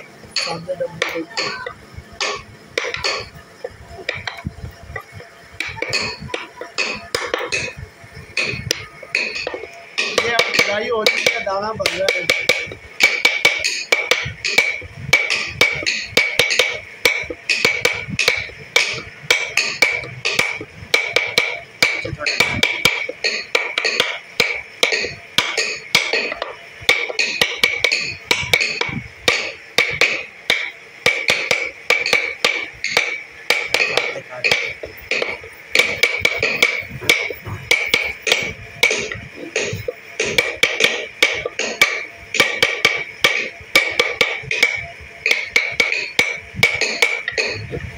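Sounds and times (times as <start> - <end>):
hammer tapping steel punch: 0.3 - 7.8, 8.4 - 47.9.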